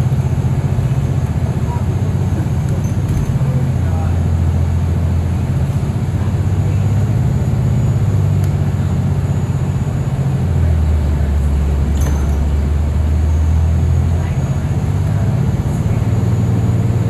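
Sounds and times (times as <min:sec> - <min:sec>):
bus engine hum: 0:00.0 - 0:17.0
road noise: 0:00.0 - 0:17.0.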